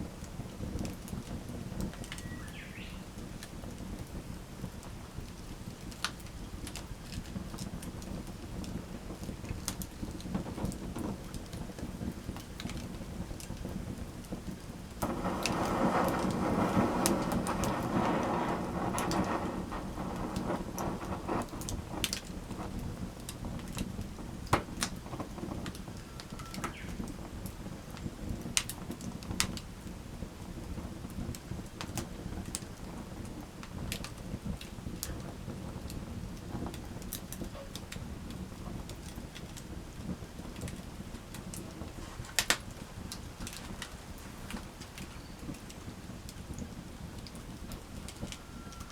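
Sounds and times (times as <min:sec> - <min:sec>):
fire crackling and popping: 0:00.0 - 0:48.9
low rush of campfire flames: 0:00.0 - 0:48.9.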